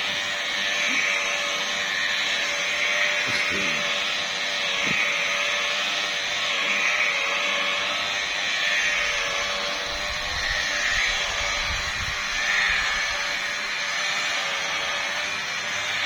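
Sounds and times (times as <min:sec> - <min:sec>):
electric car polisher running: 0:00.0 - 0:16.0.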